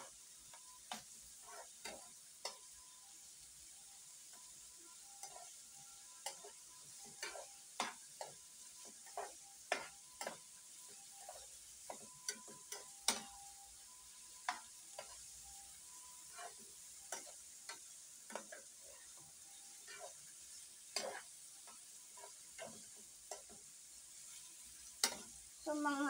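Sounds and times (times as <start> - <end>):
metal spatula scraping frying pan: 0.0 - 3.1, 3.7 - 25.6
food sizzling: 0.0 - 26.0.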